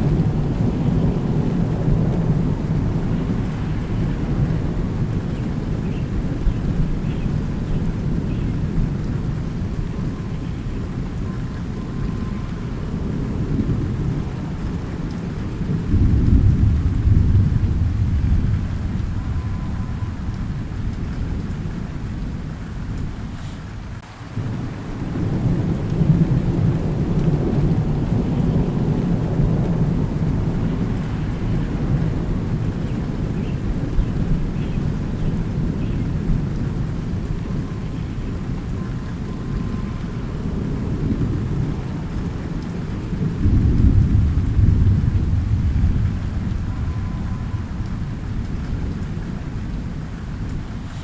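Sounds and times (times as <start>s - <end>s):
rolling thunder: 0.0s - 51.0s
steady rain: 0.0s - 51.0s.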